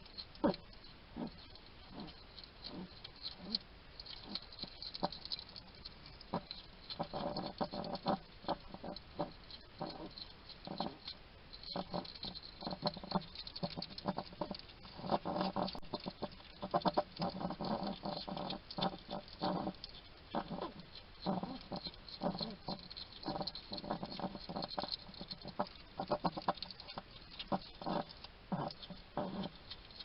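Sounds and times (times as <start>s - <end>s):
hedgehog crunching and chewing: 0.0s - 30.0s
hedgehog snuffling and huffing: 0.0s - 30.0s.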